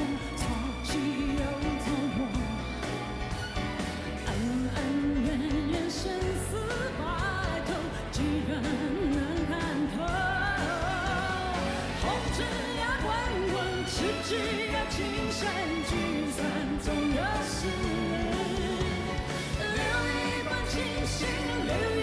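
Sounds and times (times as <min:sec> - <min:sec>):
live band accompaniment: 0:00.0 - 0:22.0
woman singing pop song: 0:00.0 - 0:22.0.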